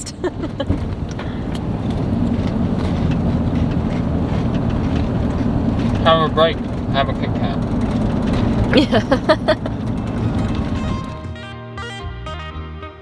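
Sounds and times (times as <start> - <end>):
van engine humming: 0.0 - 13.0.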